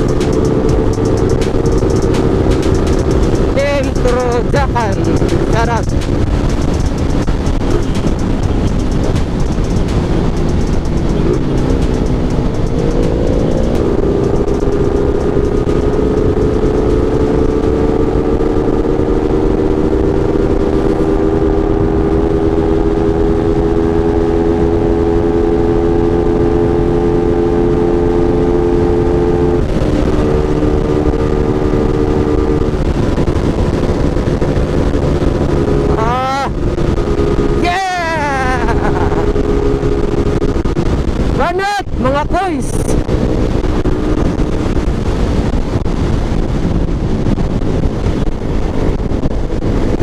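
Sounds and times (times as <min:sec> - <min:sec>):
motorcycle engine accelerating: 0:00.0 - 0:50.0
wind rush over microphone: 0:00.0 - 0:50.0.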